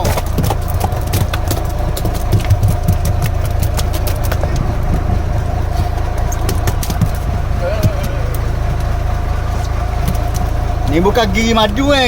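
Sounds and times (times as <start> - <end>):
boat engine idling: 0.0 - 12.0
sharp ticks: 0.0 - 12.0.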